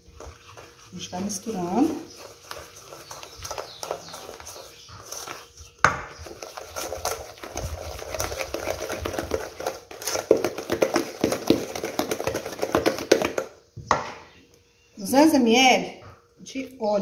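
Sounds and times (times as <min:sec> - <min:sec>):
spoon beating batter in metal bowl: 0:00.0 - 0:13.7.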